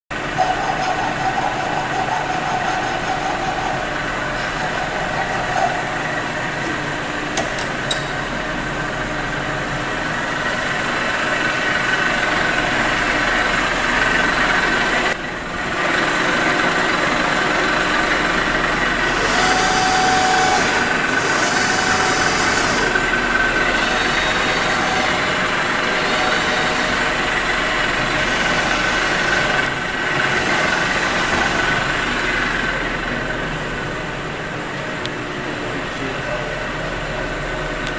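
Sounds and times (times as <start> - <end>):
milling machine humming: 0.1 - 37.9.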